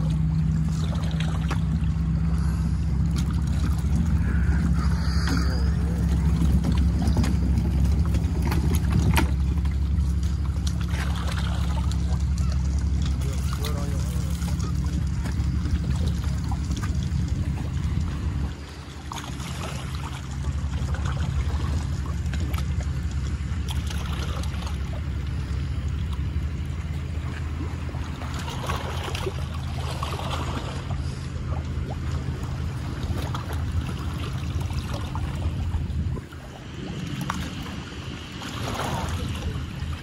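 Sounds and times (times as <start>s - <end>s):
motor humming: 0.0s - 34.6s.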